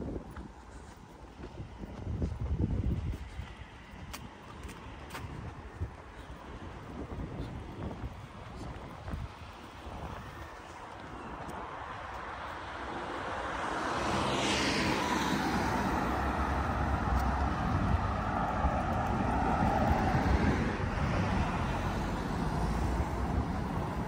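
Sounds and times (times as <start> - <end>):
low traffic rumble: 0.0 - 24.0
vehicle engine and tyre noise: 0.0 - 24.0.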